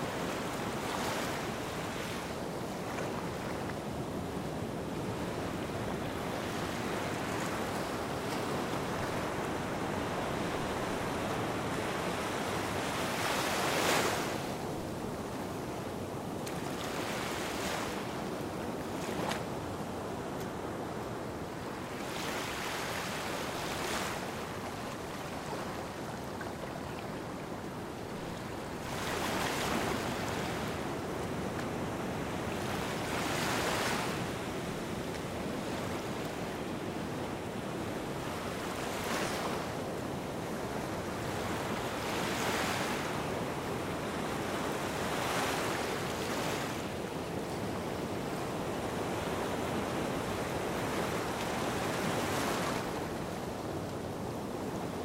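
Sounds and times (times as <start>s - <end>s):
small waves washing on sand: 0.0s - 55.0s.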